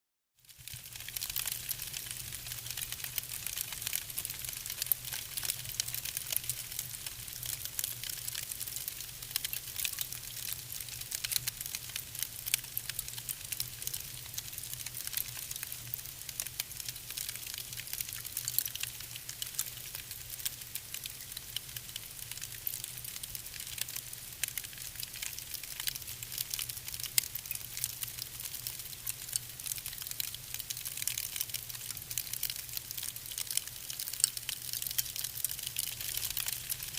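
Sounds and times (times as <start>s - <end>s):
wood fire crackling: 0.5s - 36.9s.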